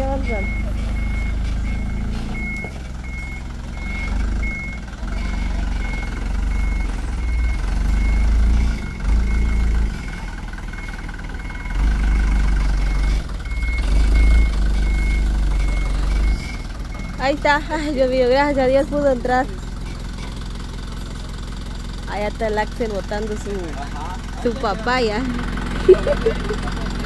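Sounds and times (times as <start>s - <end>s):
truck engine rumbling: 0.0s - 27.0s
truck reversing beeper: 0.0s - 27.0s.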